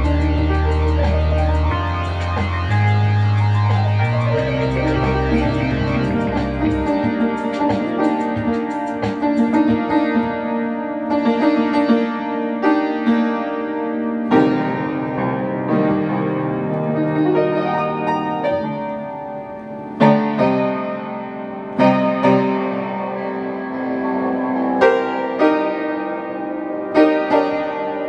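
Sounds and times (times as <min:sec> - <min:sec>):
piano chords: 0:00.0 - 0:28.0.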